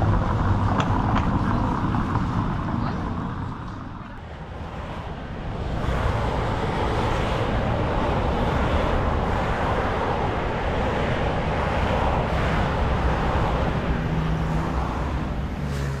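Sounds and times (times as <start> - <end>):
rushing noise with low rumble: 0.0 - 16.0.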